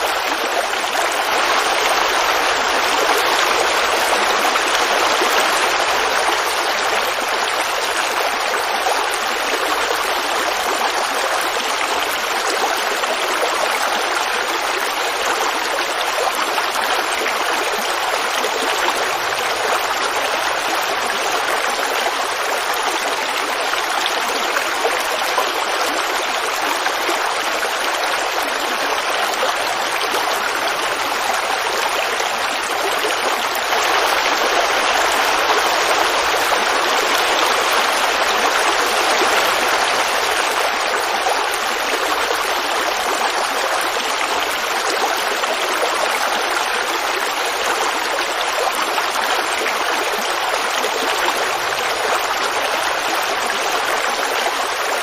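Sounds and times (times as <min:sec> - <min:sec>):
creek babbling: 0:00.0 - 0:55.0.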